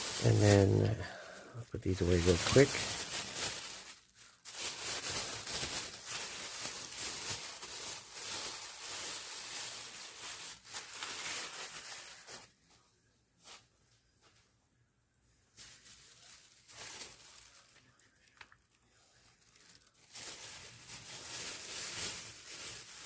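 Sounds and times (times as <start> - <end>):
rustling and handling noise: 0.0 - 14.7, 15.4 - 23.0.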